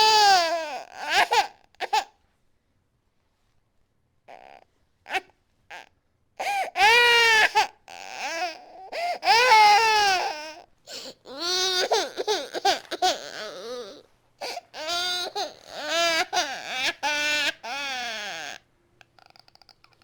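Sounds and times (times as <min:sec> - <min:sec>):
baby crying: 0:00.0 - 0:02.1, 0:04.3 - 0:18.6.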